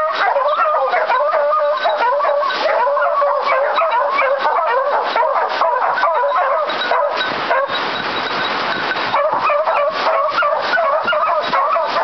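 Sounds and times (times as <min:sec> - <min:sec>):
hounds baying: 0:00.0 - 0:08.4, 0:09.0 - 0:12.0.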